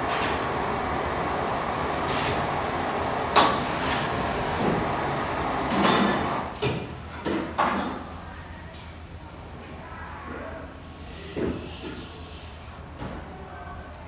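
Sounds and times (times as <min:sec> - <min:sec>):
fans running: 0:00.0 - 0:14.0.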